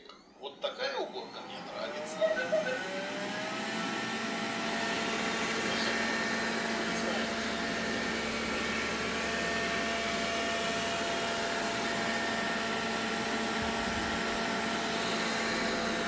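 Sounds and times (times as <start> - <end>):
robot vacuum cleaner running: 0.0 - 16.0.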